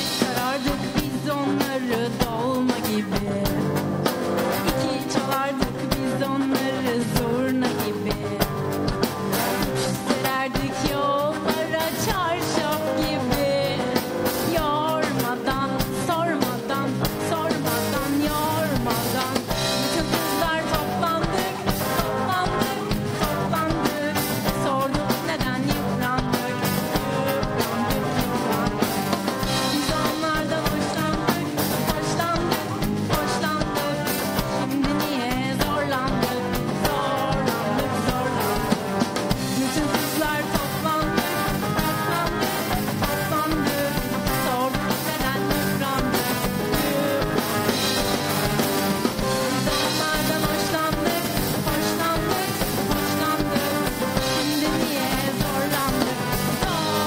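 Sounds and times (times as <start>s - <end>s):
woman singing into a microphone: 0.0s - 3.9s, 4.6s - 48.2s, 49.2s - 57.0s
pop-rock band playing: 0.0s - 57.0s.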